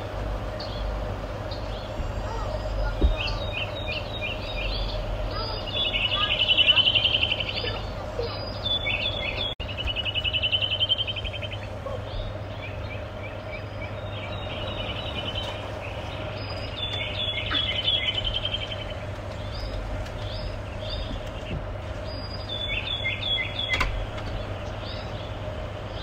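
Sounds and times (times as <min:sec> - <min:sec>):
low steady rumble: 0:00.0 - 0:26.0
songbirds trilling and chirping: 0:00.0 - 0:26.0.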